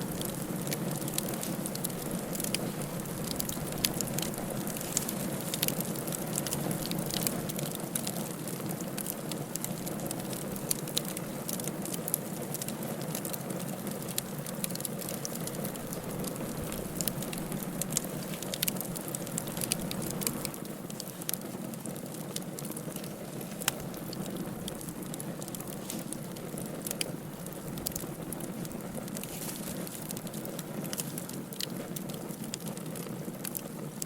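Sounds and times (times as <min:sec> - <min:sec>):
fire crackles and pops: 0:00.0 - 0:34.0
firewood burning in fireplace: 0:00.0 - 0:34.0.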